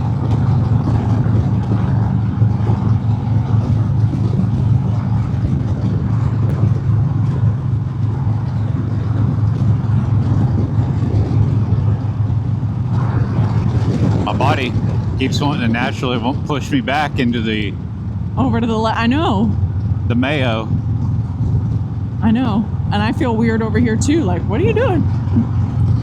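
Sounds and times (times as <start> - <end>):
motorcycle engine cruising: 0.0 - 26.0
wind noise: 0.0 - 26.0.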